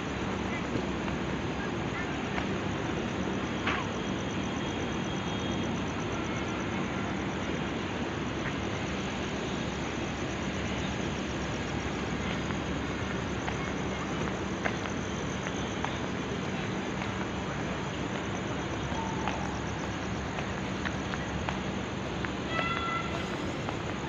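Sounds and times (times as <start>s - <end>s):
standing train hum and drone: 0.0s - 24.0s.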